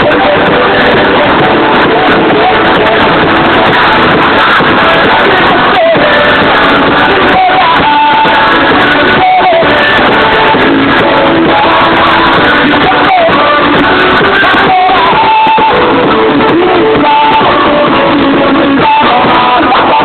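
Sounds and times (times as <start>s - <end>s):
loud music with singing: 0.0s - 20.0s.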